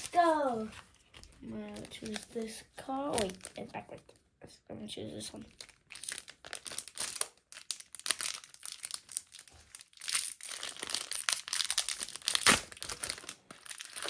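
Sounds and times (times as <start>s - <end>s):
foil wrapper crinkling and tearing: 0.0s - 3.7s, 5.5s - 14.0s.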